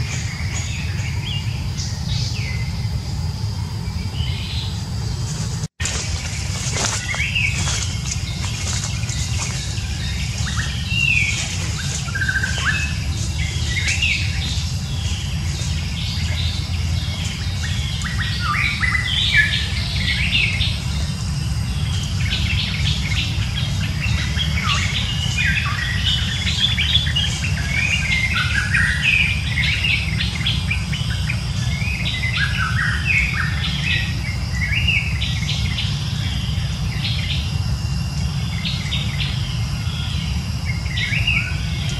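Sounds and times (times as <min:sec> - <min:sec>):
birds chirping: 0:00.0 - 0:41.9
steady low rumble: 0:00.0 - 0:41.9.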